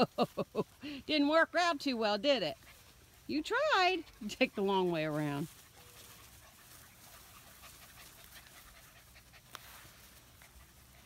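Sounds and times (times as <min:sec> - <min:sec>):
puppies panting and scuffling: 0:00.1 - 0:11.0.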